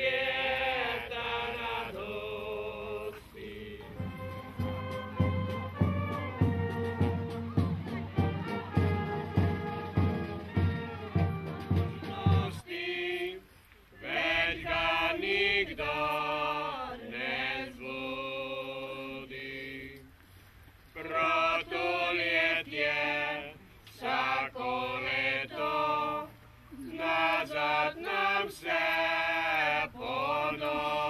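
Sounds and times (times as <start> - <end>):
unaccompanied singing voices: 0.0 - 20.2, 20.8 - 31.0.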